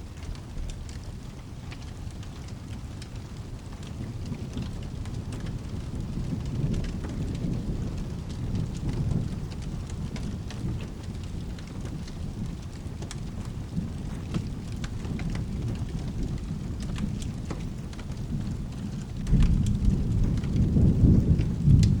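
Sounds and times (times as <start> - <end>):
steady rain: 0.0 - 22.0
thunder rumble: 4.0 - 22.0.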